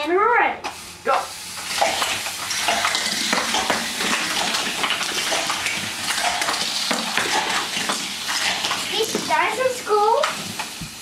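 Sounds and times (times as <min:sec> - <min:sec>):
toy cars rattling down plastic track: 0:01.7 - 0:10.8.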